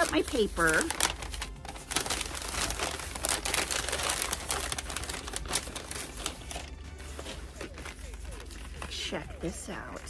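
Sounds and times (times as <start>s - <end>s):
paper packaging crinkling: 0.0s - 10.0s.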